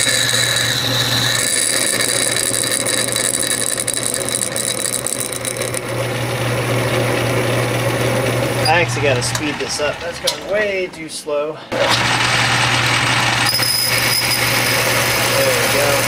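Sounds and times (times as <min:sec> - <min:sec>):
drill cutting whine: 0:00.0 - 0:10.4, 0:11.8 - 0:16.0
metal lathe humming: 0:00.0 - 0:11.0, 0:11.7 - 0:16.0.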